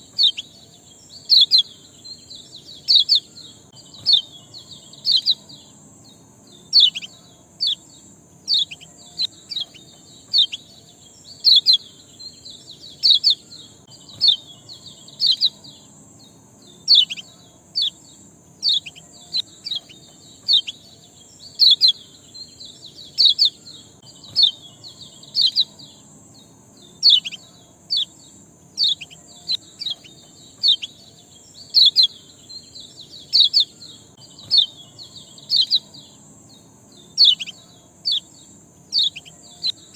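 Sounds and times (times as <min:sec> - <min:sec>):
songbird chirping: 0:00.0 - 0:39.9
steady high hiss: 0:00.0 - 0:39.9.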